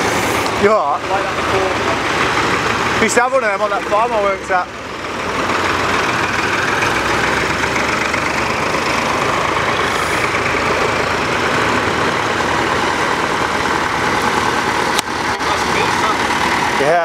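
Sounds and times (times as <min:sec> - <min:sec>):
tractors driving past: 0:00.0 - 0:17.0.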